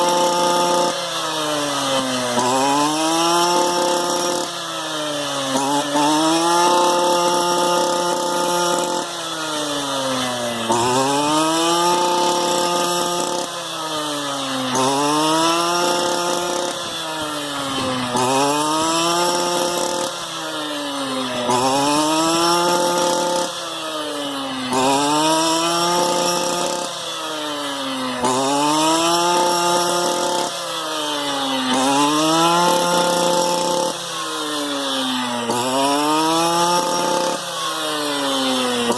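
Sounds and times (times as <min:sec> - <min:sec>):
brush cutter engine revving: 0:00.0 - 0:38.9.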